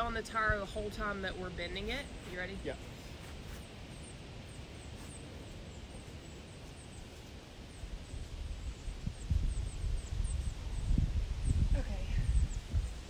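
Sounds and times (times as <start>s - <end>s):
wind buffeting microphone: 0.0s - 3.0s, 5.4s - 13.0s.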